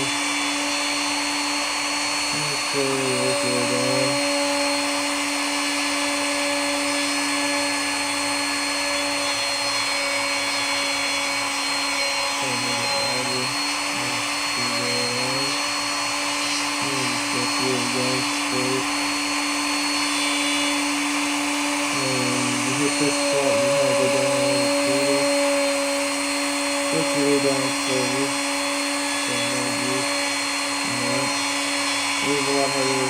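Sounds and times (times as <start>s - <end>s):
wood router whining: 0.0s - 33.0s.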